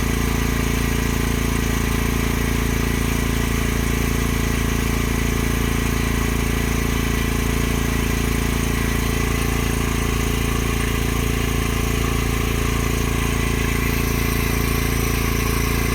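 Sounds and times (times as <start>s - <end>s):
water pump motor humming: 0.0s - 15.9s.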